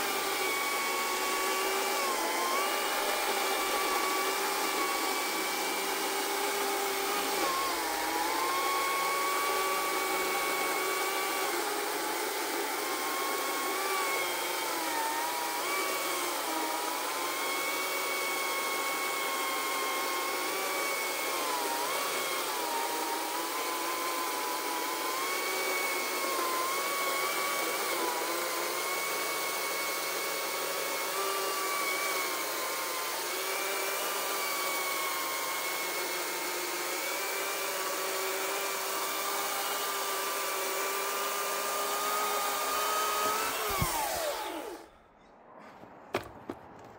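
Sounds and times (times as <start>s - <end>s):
electric chainsaw cutting log: 0.0s - 44.9s.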